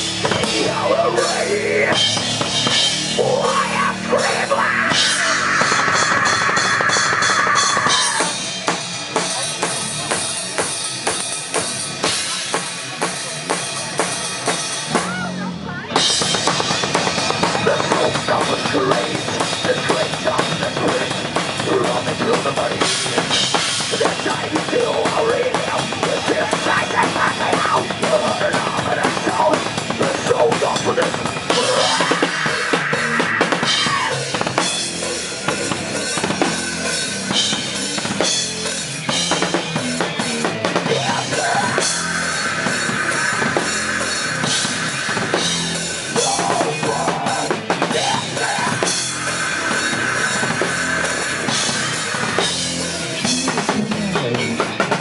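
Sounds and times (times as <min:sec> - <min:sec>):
heavy metal band playing: 0:00.0 - 0:55.0
bass drum and snare: 0:04.9 - 0:55.0.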